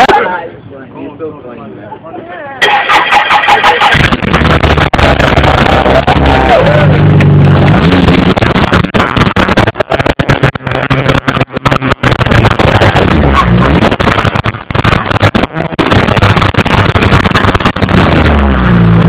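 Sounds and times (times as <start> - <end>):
engine running and revving: 2.6 - 19.0.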